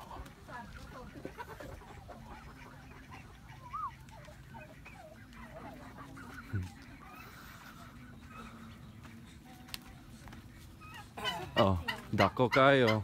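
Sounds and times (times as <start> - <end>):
ducks and fowl calling: 0.0 - 13.0.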